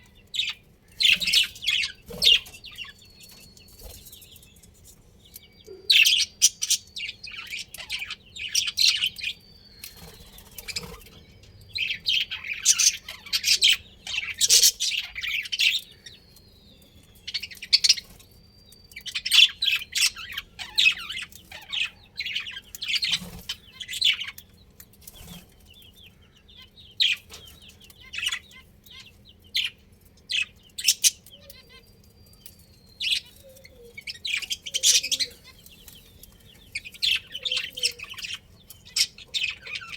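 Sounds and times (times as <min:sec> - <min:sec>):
budgerigars chirping: 0:00.0 - 0:04.5, 0:05.3 - 0:18.3, 0:18.9 - 0:39.9.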